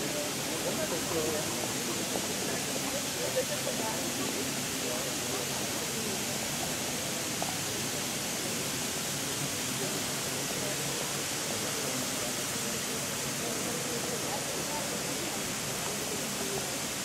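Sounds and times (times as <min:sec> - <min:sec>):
faint voices: 0:00.0 - 0:17.0.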